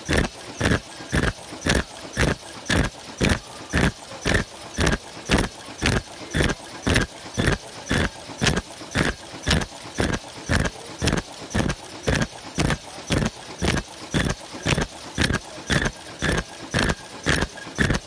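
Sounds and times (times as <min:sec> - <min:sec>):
machine knocking: 0:00.0 - 0:18.0.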